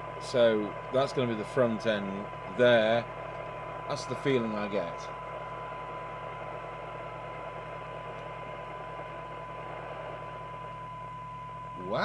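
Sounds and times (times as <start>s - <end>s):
low hum: 0.0s - 12.0s
radio receiver hiss: 0.0s - 12.0s
steady test tone: 0.0s - 12.0s.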